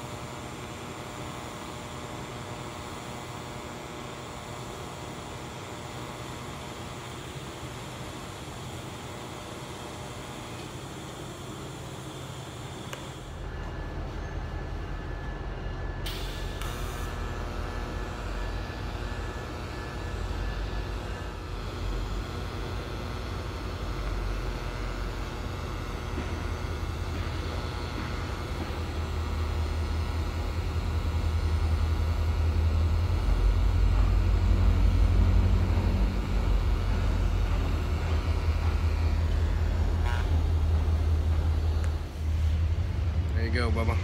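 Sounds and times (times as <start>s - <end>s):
welding arc buzz and hum: 0.0s - 44.0s.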